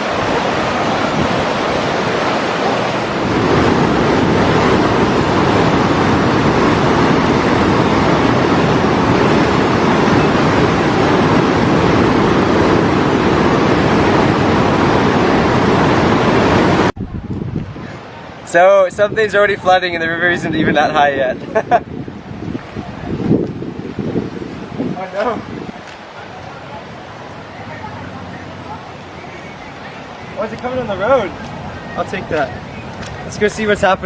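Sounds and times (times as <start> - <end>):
rushing floodwater: 0.0 - 34.0.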